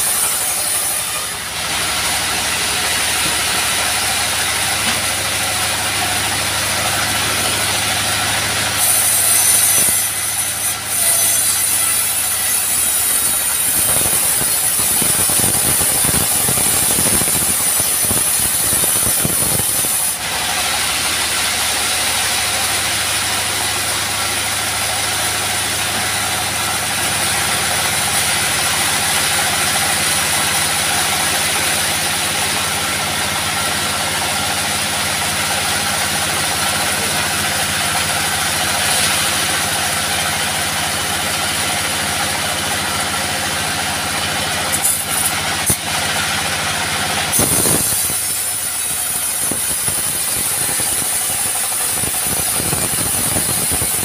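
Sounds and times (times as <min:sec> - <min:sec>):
bandsaw sawmill running: 0:00.0 - 0:54.0.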